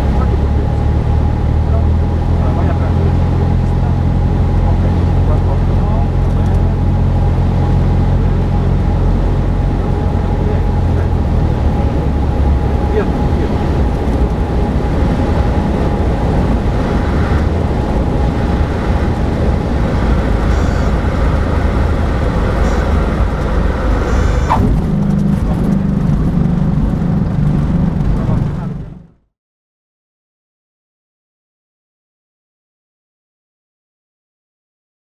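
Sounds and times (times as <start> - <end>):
wind noise: 0.0 - 28.7
light aircraft engine and propeller: 0.0 - 29.2
runway roll-out noise: 0.0 - 29.2.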